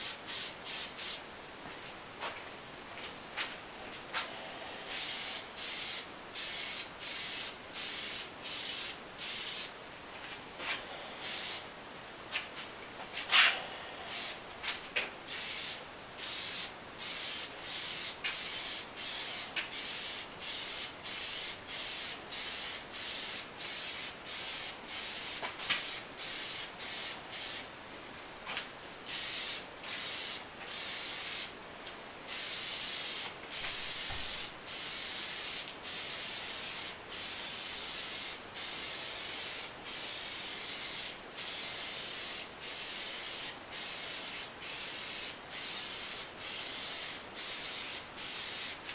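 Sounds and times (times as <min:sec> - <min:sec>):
aerosol can spraying: 0:00.0 - 0:01.2, 0:04.2 - 0:09.7, 0:10.6 - 0:11.6, 0:13.2 - 0:27.7, 0:29.1 - 0:31.5, 0:32.3 - 0:48.8.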